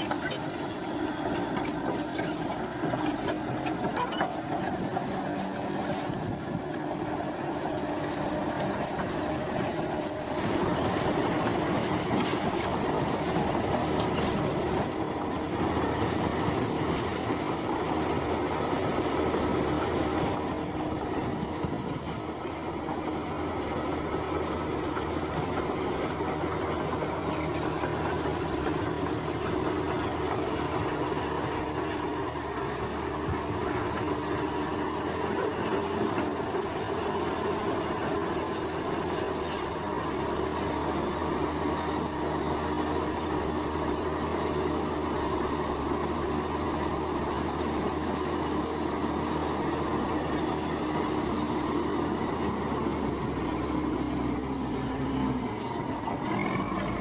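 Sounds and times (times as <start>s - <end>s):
diesel engine under load: 0.0s - 57.0s
steel tracks squealing and clanking: 0.0s - 57.0s.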